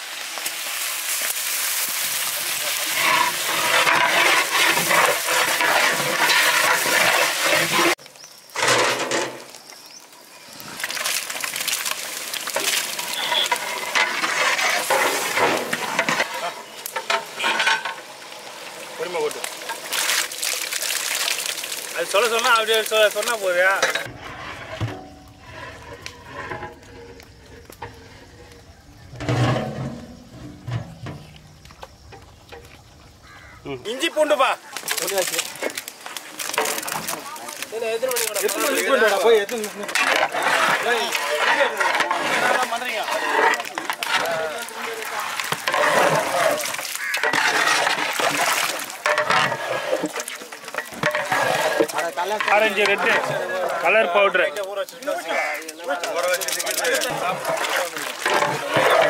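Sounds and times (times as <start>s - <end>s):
onions sizzling in hot oil: 0.0s - 8.6s, 9.3s - 24.1s, 33.3s - 59.0s.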